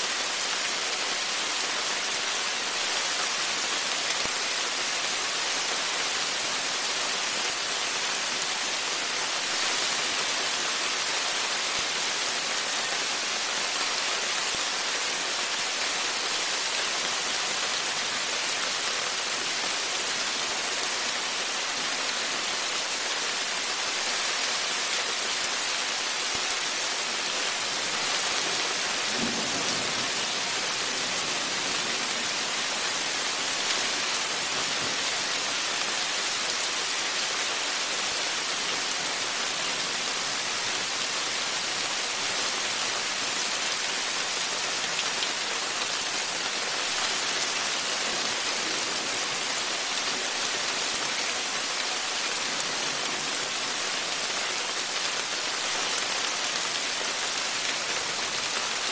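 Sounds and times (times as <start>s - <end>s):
heavy rain on porch: 0.0s - 58.9s.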